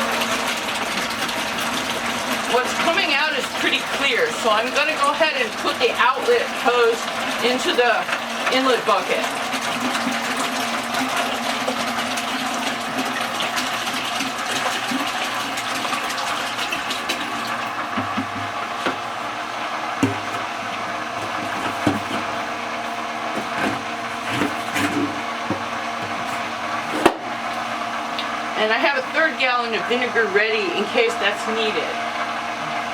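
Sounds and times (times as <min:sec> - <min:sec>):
water pouring into a bucket: 0:00.0 - 0:26.9
small pump humming: 0:00.0 - 0:32.9.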